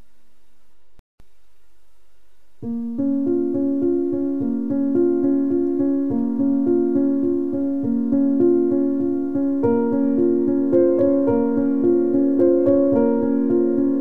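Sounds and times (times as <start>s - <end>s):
repeating piano notes: 2.6s - 14.0s.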